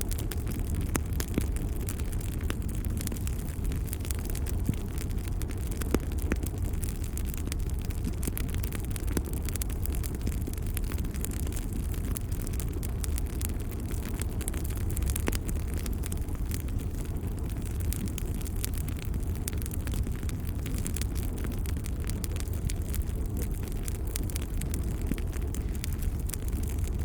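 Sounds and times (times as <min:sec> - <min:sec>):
fireplace fire crackling: 0:00.0 - 0:27.0.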